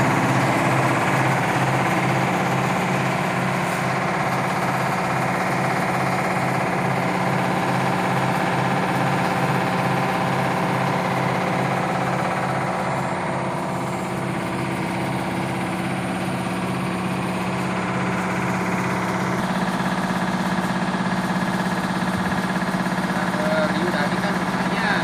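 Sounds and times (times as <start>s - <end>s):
diesel engine running: 0.0s - 25.0s
rice mill milling: 0.0s - 25.0s.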